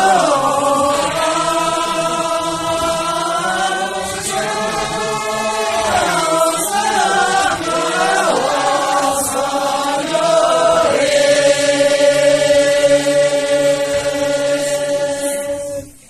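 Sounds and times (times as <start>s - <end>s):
group singing in unison: 0.0s - 16.0s.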